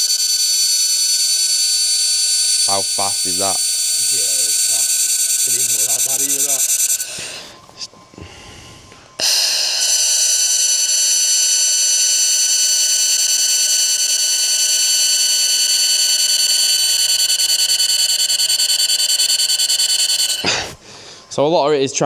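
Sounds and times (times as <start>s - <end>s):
laser welder high-pitched whine: 0.0s - 7.5s, 9.2s - 20.8s.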